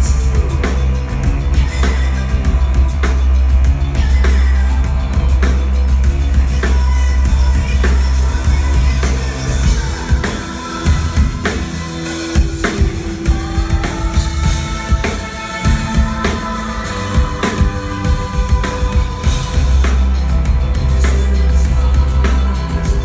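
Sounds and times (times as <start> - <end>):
heavy sustained bass: 0.0 - 23.0
live band music: 0.0 - 23.0.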